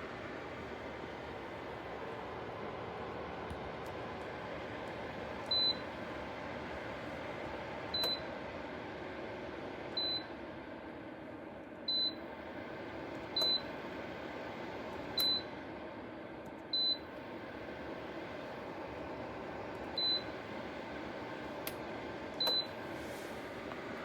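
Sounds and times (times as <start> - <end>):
heater fan whooshing: 0.0 - 24.0.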